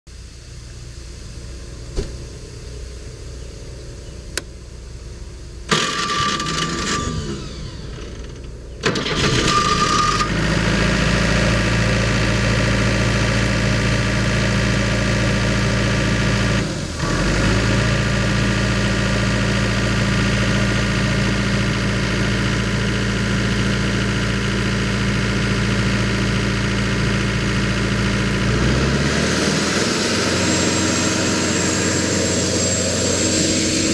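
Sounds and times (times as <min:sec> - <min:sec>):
air compressor engine: 0:00.1 - 0:33.9.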